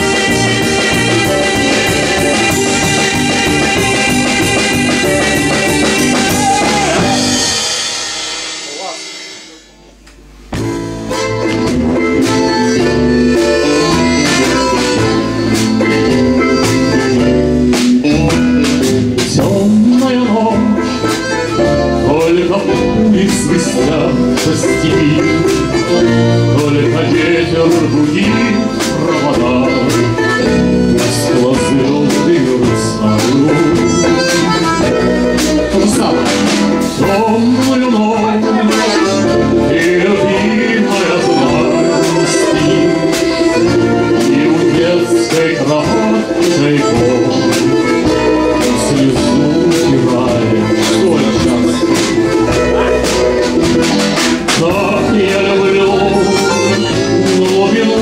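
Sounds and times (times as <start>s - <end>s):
bass: 0.0s - 58.0s
guitar: 0.0s - 58.0s
harmonica melody: 0.0s - 58.0s.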